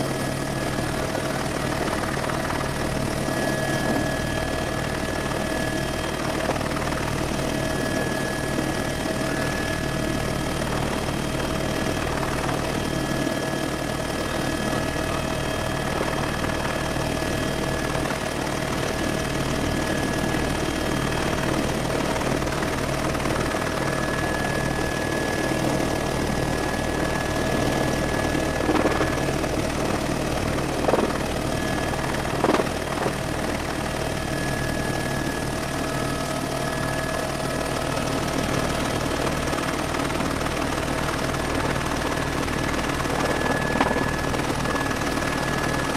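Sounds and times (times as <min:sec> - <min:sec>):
helicopter rotor and engine drone: 0:00.0 - 0:45.9.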